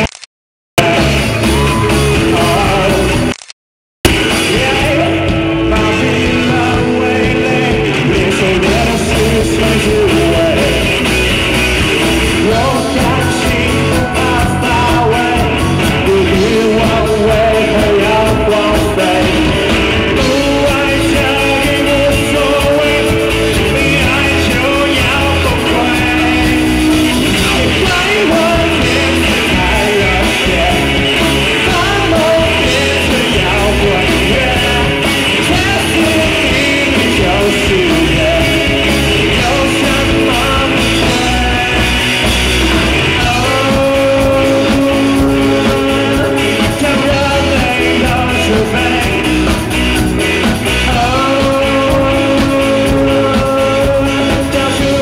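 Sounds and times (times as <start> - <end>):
man singing long notes: 0.8 - 3.2, 4.3 - 11.0, 12.3 - 42.2, 42.8 - 49.6, 50.7 - 55.0
live rock band playing: 0.8 - 3.4, 4.0 - 55.0.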